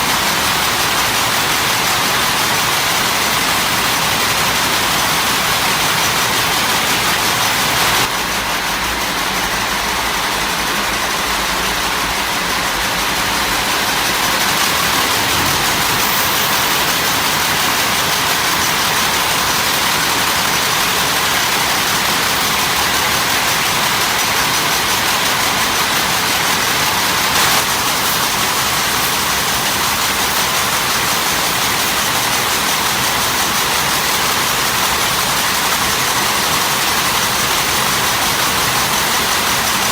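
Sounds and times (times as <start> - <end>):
loud factory machinery: 0.0 - 39.9.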